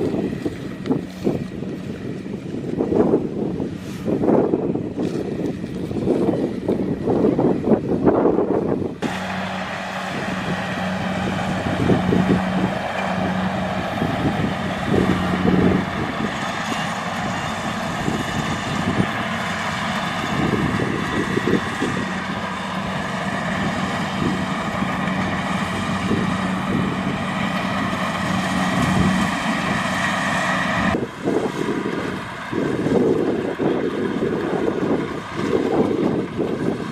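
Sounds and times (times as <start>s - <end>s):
combine harvester engine humming: 0.0s - 36.9s.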